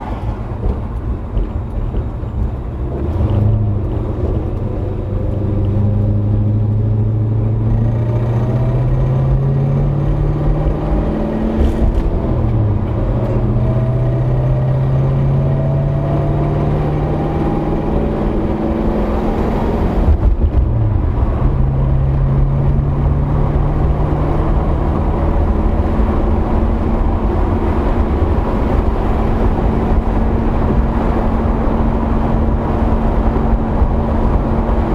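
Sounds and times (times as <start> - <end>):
vehicle engine accelerating: 0.0 - 34.9.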